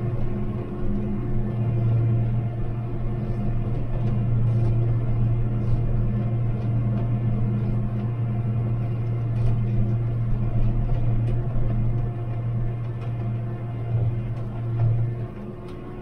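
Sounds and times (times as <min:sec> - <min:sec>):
engine droning under load: 0:00.0 - 0:16.0.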